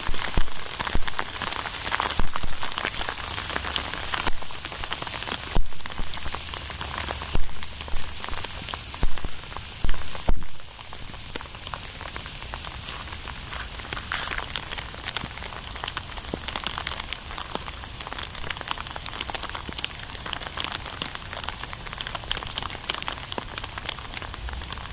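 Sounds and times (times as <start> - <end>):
hail clattering on hard surfaces: 0.0 - 24.9.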